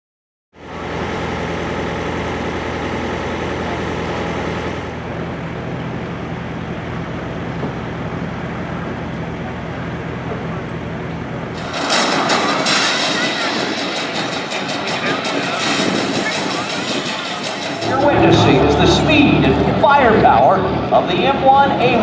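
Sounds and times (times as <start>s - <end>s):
tank turbine engine running: 0.6s - 22.0s.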